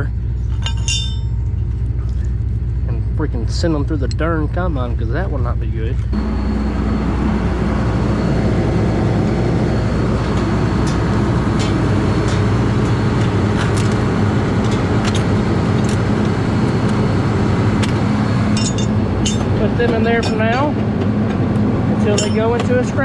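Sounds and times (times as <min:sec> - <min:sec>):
combine engine running: 0:00.0 - 0:23.0.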